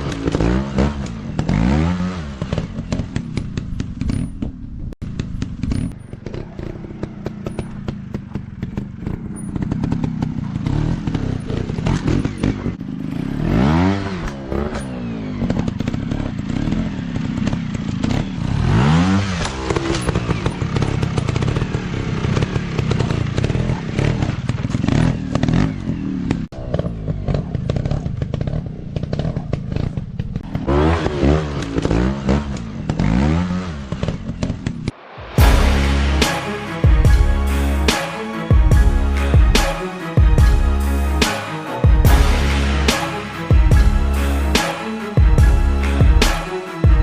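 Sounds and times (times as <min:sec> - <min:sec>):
dirt bike engine revving: 0:00.0 - 0:04.4, 0:05.0 - 0:47.0.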